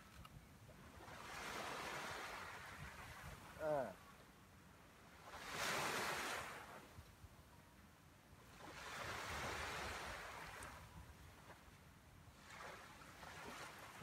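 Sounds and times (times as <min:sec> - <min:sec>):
small waves breaking on beach: 0:00.8 - 0:14.0.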